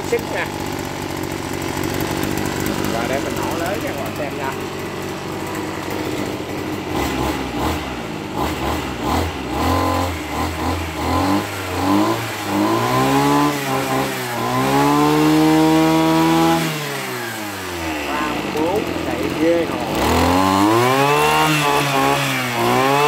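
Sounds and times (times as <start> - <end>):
brush cutter engine revving: 0.0 - 23.0.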